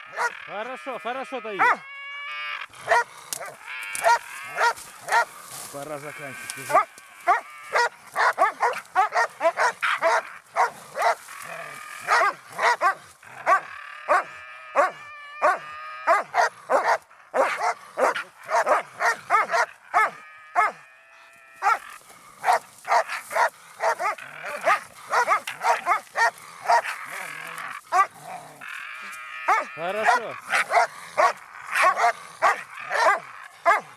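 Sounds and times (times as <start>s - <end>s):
dog drawn-out cry: 0.0s - 5.4s, 6.0s - 33.9s
dog barking rapidly: 0.1s - 0.4s, 1.5s - 1.8s, 2.8s - 5.3s, 6.7s - 20.8s, 21.6s - 27.2s, 27.9s - 28.1s, 29.5s - 33.9s.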